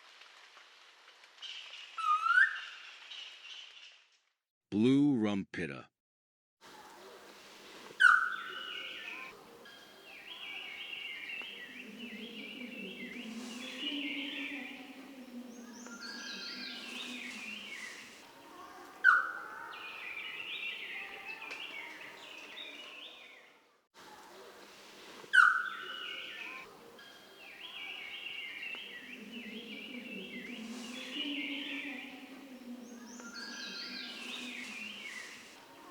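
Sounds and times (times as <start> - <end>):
forest birds chattering: 6.7 - 35.9.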